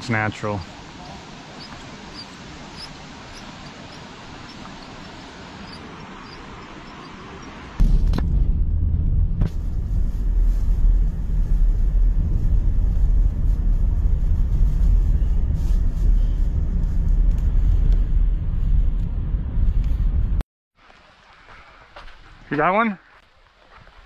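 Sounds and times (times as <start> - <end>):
car interior road rumble: 0.4 - 20.4.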